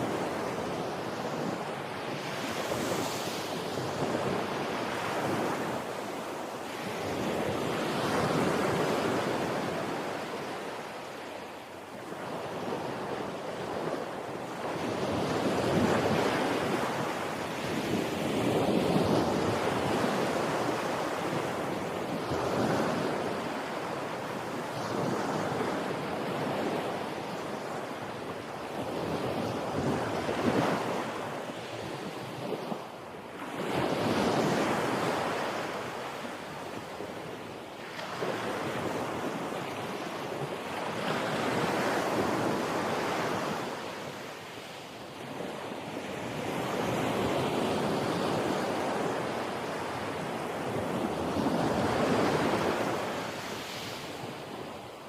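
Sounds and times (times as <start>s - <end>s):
ocean waves washing onto shore: 0.0s - 55.0s.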